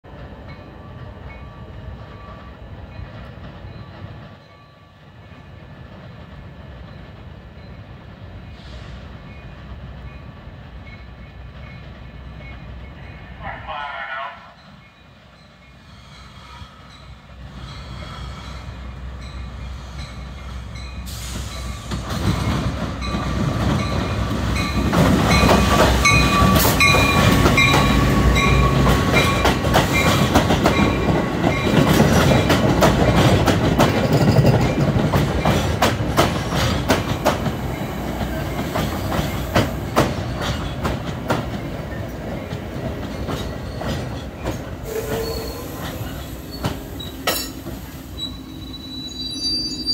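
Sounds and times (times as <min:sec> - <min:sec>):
train rumble passing: 0:00.0 - 0:49.9.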